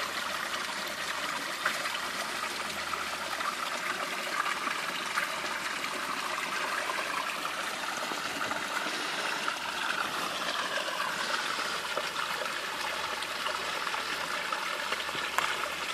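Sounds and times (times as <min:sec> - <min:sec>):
running water trickling: 0:00.0 - 0:15.9.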